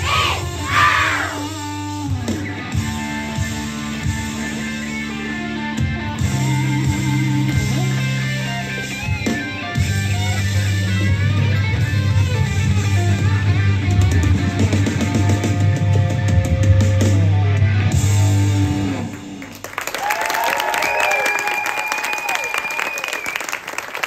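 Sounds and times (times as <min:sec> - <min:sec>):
rock music: 0:00.0 - 0:19.6.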